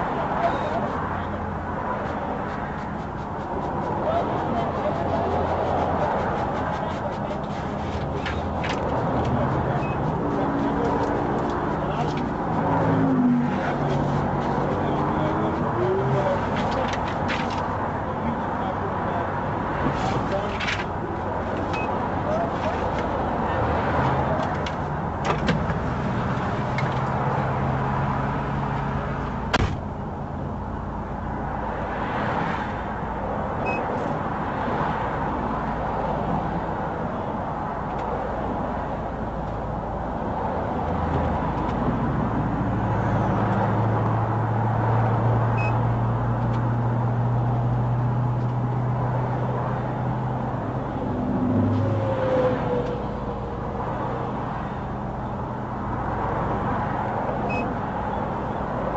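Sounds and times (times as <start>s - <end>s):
vehicle engine hum: 0.0s - 58.9s.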